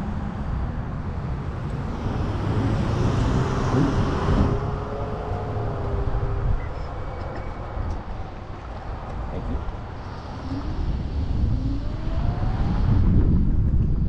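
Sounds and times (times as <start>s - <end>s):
wind and road noise rumble: 0.0s - 14.0s.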